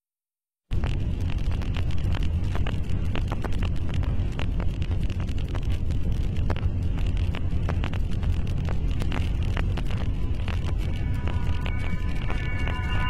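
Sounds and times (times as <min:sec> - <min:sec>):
loud low rumble: 0:00.7 - 0:13.0
sharp crackles: 0:00.7 - 0:13.0.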